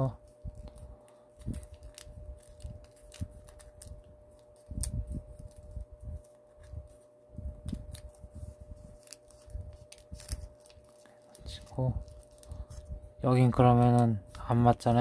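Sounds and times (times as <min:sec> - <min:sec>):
faint steady hum: 0:00.0 - 0:15.0
paper crinkling and creasing: 0:00.0 - 0:15.0.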